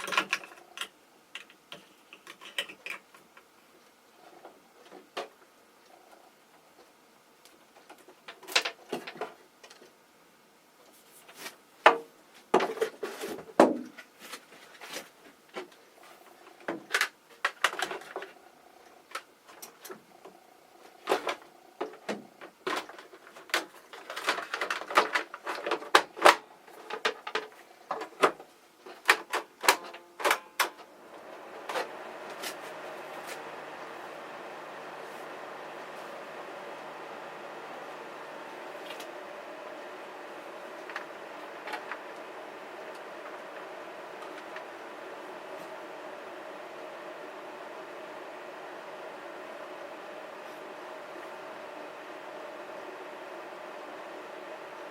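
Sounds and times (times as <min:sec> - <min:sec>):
ventilation fan whirring: 0:00.0 - 0:54.9.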